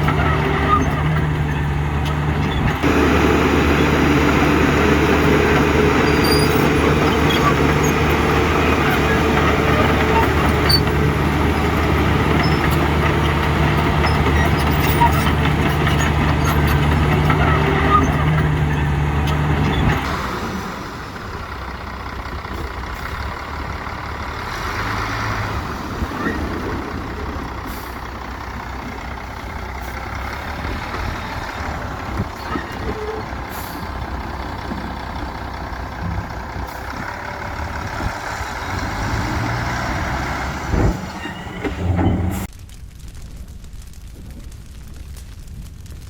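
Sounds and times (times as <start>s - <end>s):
diesel machinery engines rumbling: 0.0s - 42.5s.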